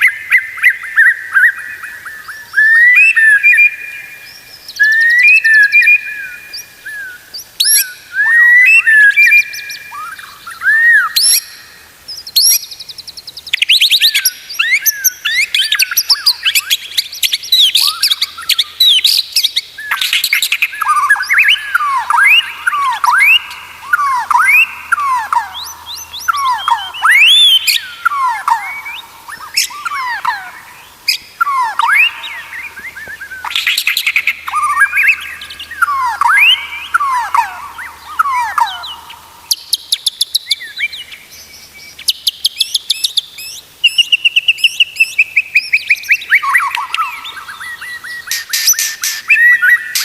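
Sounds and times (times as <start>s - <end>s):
bird singing whistles and trills: 0.0s - 50.0s.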